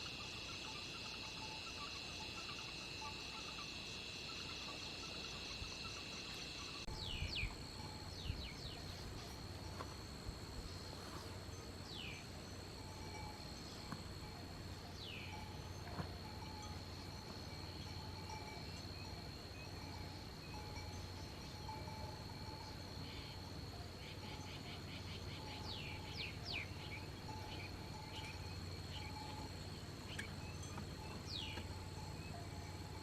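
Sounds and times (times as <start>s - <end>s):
night insects trilling: 0.0s - 33.0s.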